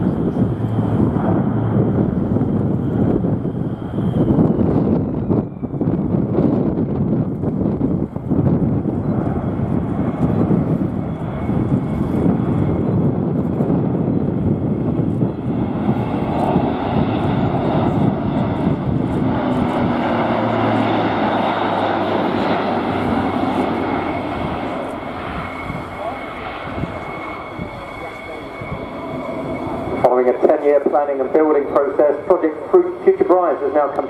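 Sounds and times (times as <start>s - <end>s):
low hum: 0.0s - 34.0s
turboprop aircraft drone: 0.0s - 34.0s.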